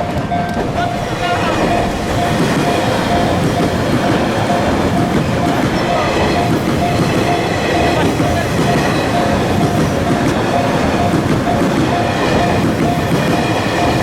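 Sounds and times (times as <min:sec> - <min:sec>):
crossing warning bell dinging: 0:00.0 - 0:14.0
train wheels clattering: 0:00.0 - 0:14.0.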